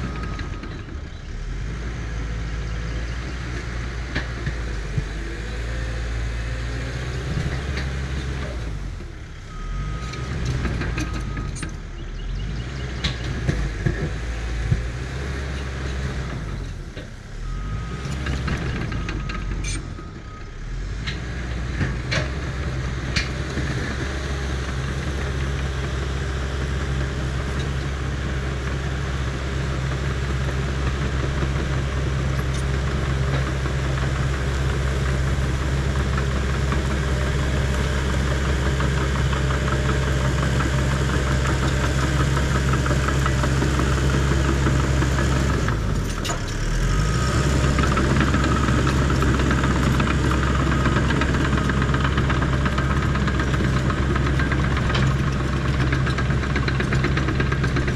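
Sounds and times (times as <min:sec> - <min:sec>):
heavy diesel engine running: 0:00.0 - 0:57.9.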